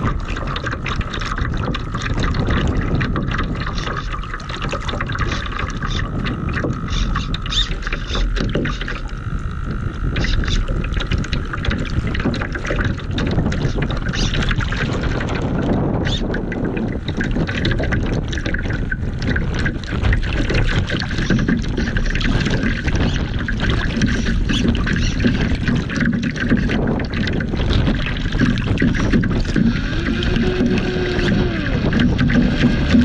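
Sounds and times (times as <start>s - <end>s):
water slapping against hull: 0.0s - 33.0s
wind buffeting microphone: 0.0s - 33.0s.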